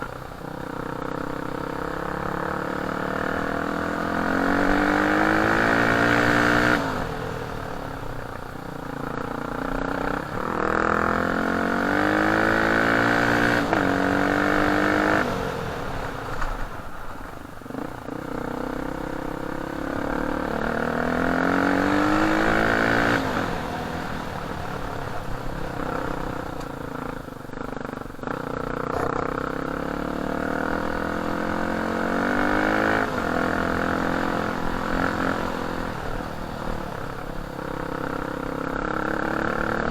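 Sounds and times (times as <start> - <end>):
dirt bike engine revving: 0.8 - 7.8, 9.1 - 16.7, 17.7 - 39.9.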